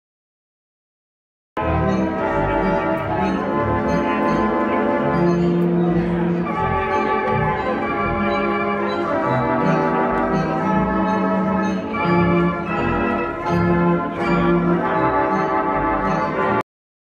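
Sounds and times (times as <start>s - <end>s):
pipe organ playing chords: 1.6s - 16.6s.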